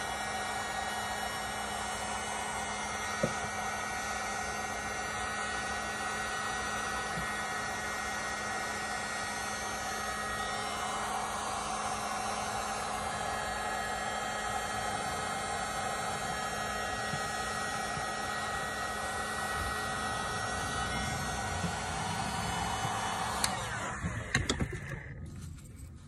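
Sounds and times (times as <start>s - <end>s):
heat gun blowing: 0.0s - 25.3s.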